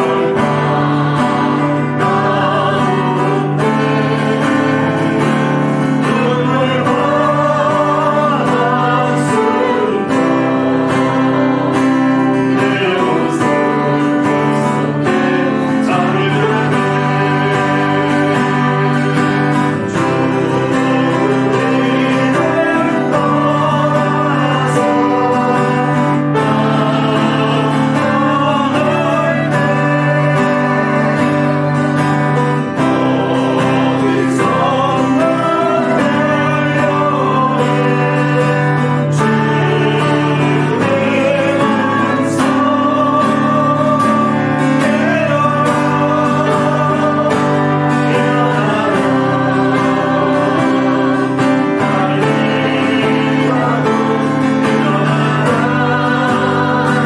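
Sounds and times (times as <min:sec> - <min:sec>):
guitar: 0:00.0 - 0:57.0
people singing worship song: 0:00.0 - 0:57.0
sustained bass: 0:00.0 - 0:57.0.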